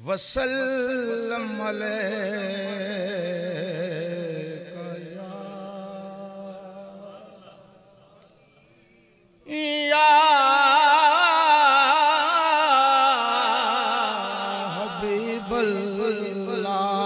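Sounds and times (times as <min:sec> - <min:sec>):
man singing into a microphone: 0:00.0 - 0:08.2, 0:09.4 - 0:17.0.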